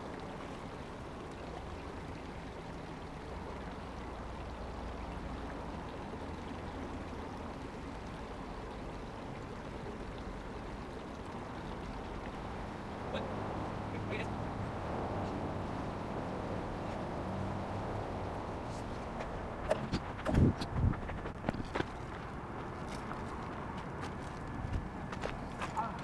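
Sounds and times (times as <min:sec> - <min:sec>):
water rushing along a canal: 0:00.0 - 0:26.0.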